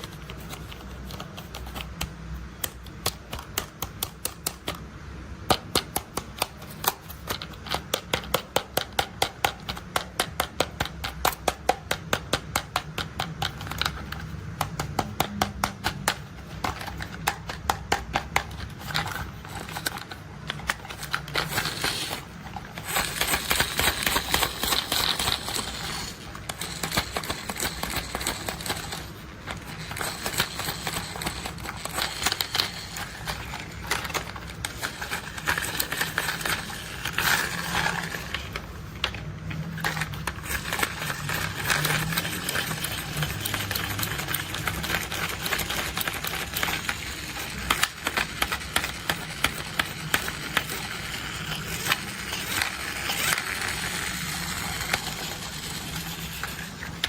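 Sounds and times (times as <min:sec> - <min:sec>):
plastic toys clicking and rattling: 0:00.0 - 0:57.0.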